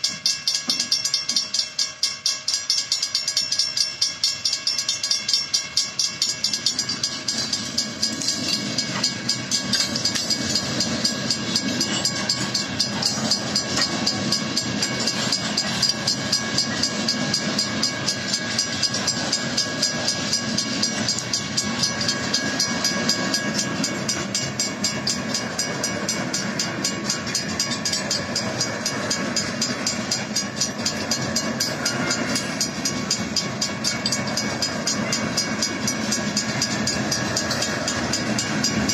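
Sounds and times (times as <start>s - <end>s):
crossing bells ringing: 0.0s - 38.9s
train wheels rumbling and clacking: 0.0s - 38.9s.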